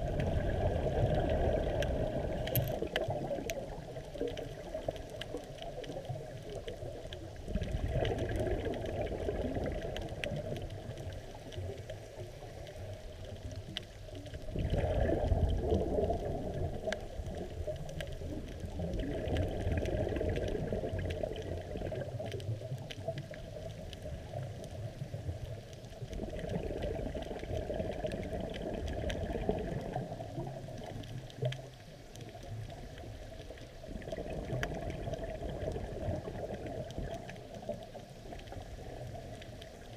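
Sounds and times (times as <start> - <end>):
diver's bubbles rumbling underwater: 0.0 - 39.9
faint clicks: 0.2 - 39.9.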